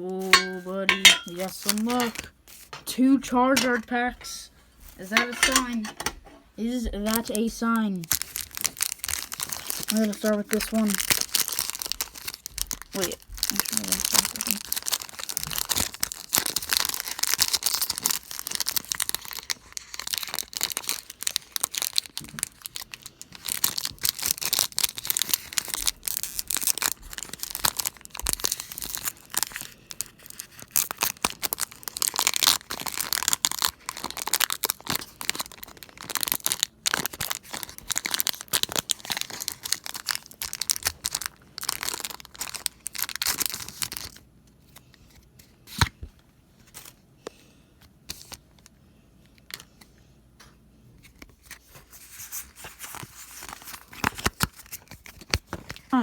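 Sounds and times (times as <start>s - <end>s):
foil wrapper crinkling and tearing: 0.0s - 2.8s, 7.0s - 46.0s, 48.0s - 48.7s, 51.0s - 56.0s.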